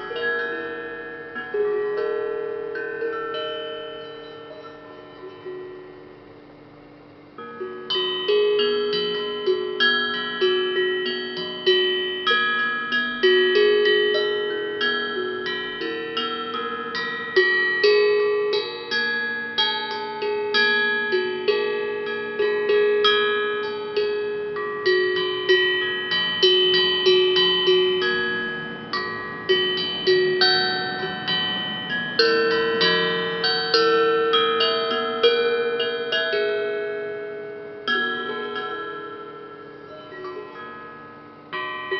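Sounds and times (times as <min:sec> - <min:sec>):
struck iron percussion melody: 0:00.0 - 0:41.9.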